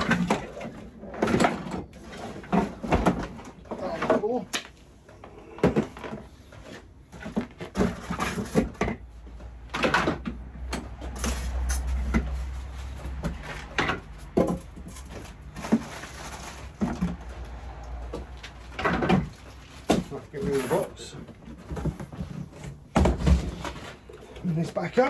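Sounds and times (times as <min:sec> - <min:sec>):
knocks and clunks of parts: 0:00.0 - 0:24.1.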